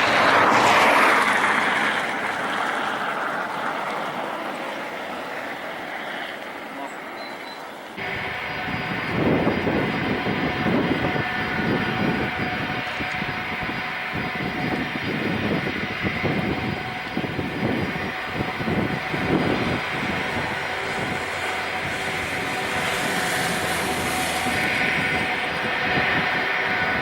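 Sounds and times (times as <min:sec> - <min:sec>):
jet engines roaring at takeoff: 0:00.0 - 0:27.0.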